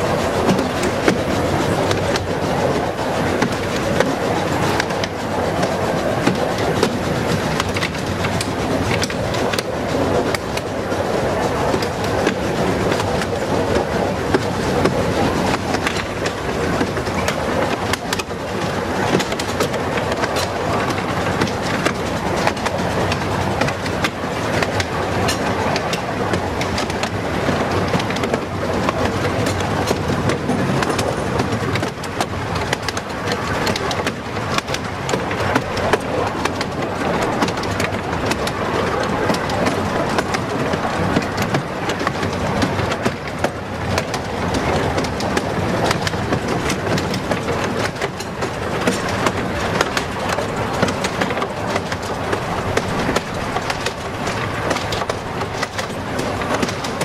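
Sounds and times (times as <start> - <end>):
wheels rumbling on rail: 0.0 - 57.0
small irregular clicks: 11.3 - 57.0.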